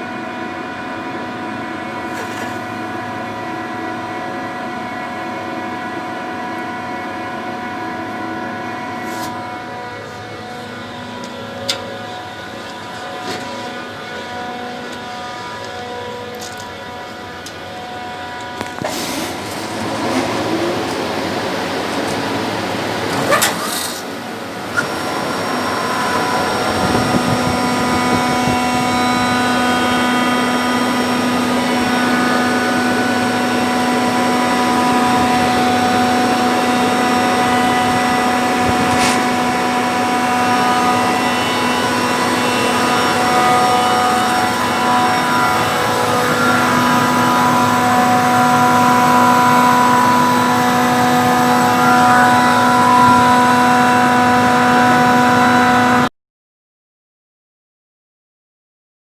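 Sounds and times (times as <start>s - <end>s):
compressor humming and whining: 0.0s - 56.1s.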